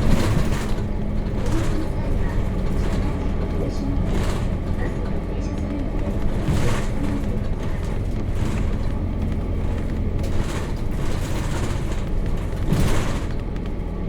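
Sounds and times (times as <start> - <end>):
bus diesel engine drone: 0.0 - 14.0
road noise: 0.0 - 14.0.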